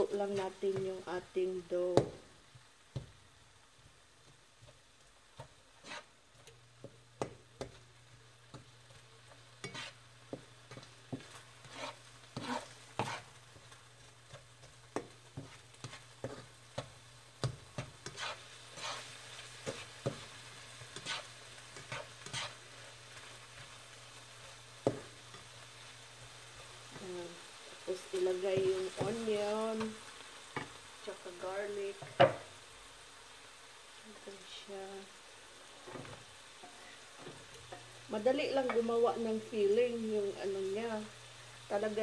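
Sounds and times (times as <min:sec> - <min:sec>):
faint sizzle: 0:00.0 - 0:42.0
utensil stirring in a pan: 0:00.0 - 0:42.0.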